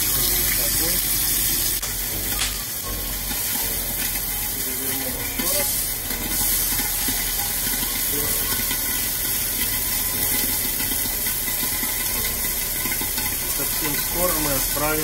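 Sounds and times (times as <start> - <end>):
steak sizzling in a grill pan: 0.0 - 15.0.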